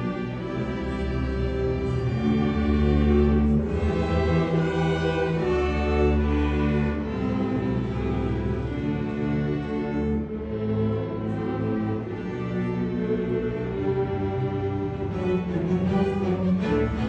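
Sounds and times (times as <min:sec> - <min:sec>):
orchestral music with bowed strings: 0:00.0 - 0:17.0.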